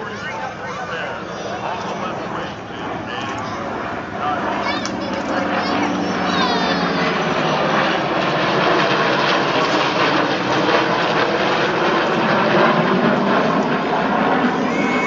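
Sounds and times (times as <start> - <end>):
plane engines overhead: 0.0 - 15.0.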